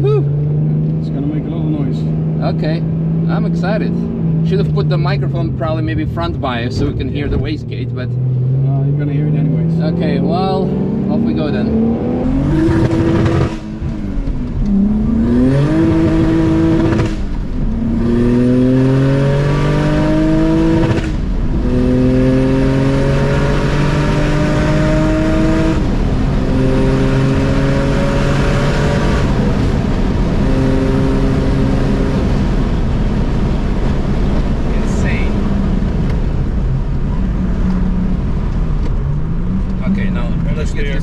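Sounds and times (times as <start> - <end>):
car engine at full throttle: 0.0 - 41.0.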